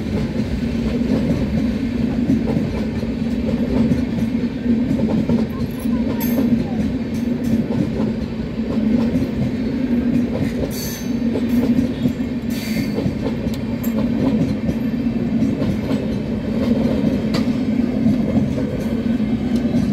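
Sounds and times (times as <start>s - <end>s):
train wheels rumbling on rail: 0.0s - 19.9s
clatter over rail joints: 0.2s - 19.9s.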